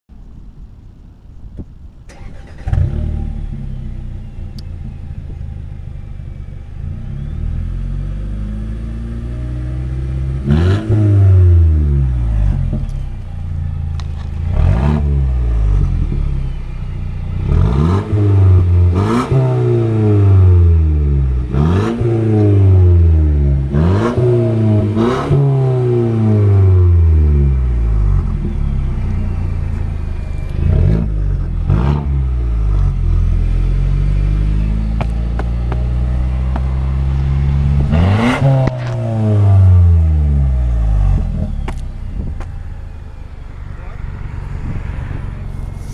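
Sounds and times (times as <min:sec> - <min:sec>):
car engine idling: 0:00.2 - 0:10.5, 0:11.4 - 0:25.4, 0:26.1 - 0:45.9
car engine starting: 0:01.7 - 0:45.9
engine revving in quick blips: 0:02.1 - 0:05.4, 0:06.8 - 0:13.3, 0:13.9 - 0:45.9.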